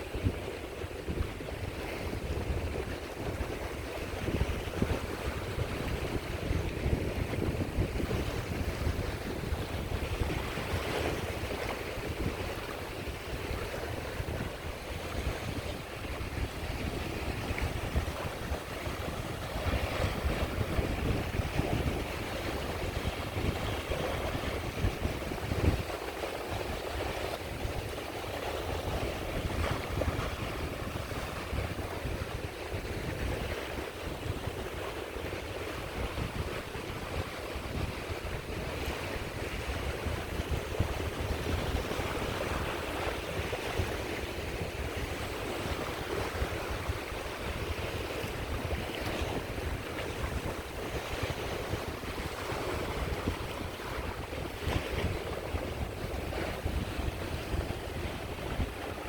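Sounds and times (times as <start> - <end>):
sea waves washing on shore: 0.0 - 59.0
wind rumbling on microphone: 0.0 - 59.0.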